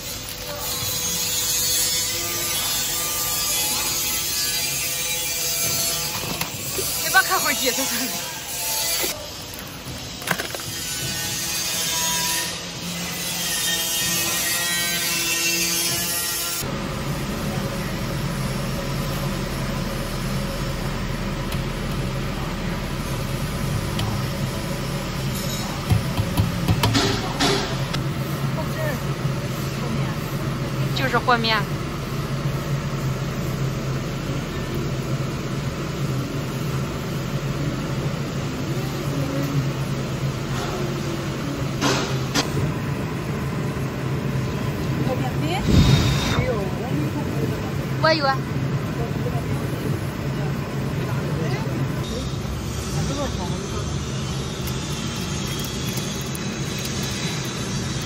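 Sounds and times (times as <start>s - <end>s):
low machinery hum: 0.0s - 58.0s.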